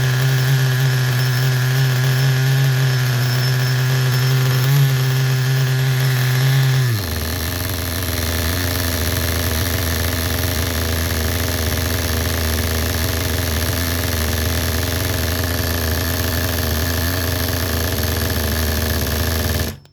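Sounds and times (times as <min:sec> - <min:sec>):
small model engine revving and idling: 0:00.0 - 0:19.9.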